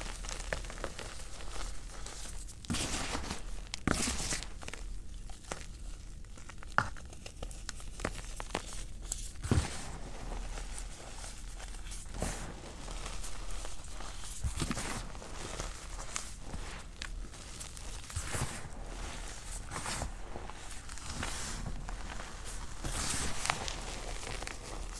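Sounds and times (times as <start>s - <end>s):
powder crunching in hands: 0.0s - 24.9s.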